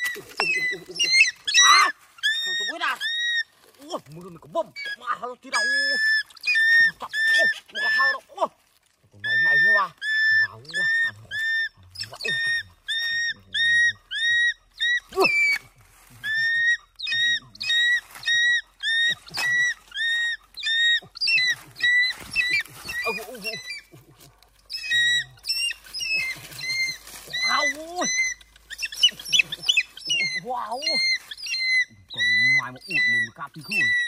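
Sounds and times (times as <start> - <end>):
young birds squawking: 0.0 - 8.3, 9.2 - 34.0.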